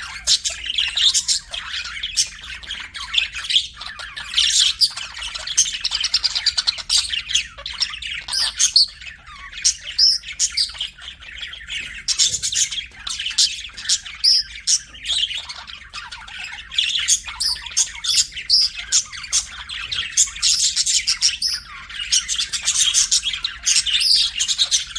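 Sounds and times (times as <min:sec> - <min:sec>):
budgies chirping: 0:00.0 - 0:24.9.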